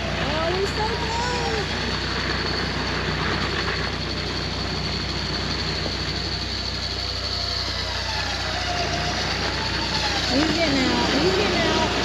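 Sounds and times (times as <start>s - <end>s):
faint high whine: 0.0s - 12.0s
vehicle engine running low revs: 0.0s - 12.0s.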